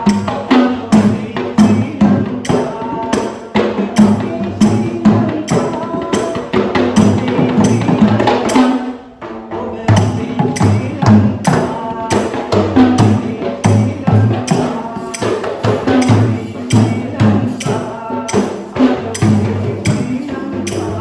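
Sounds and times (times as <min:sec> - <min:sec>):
group playing frame drums: 0:00.0 - 0:21.0.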